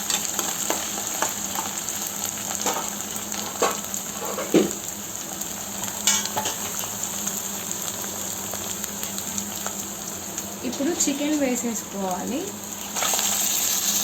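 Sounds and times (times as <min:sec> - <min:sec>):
onions sizzling in hot oil: 0:00.0 - 0:14.0.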